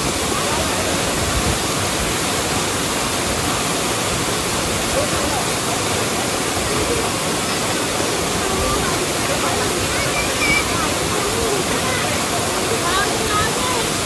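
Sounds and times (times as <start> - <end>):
water pouring over waterfall: 0.0 - 14.0.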